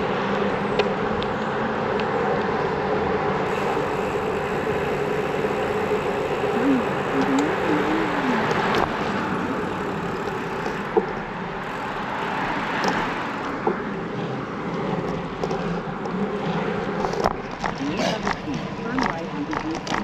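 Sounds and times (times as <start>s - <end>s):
wheels on paved street: 0.0s - 20.0s.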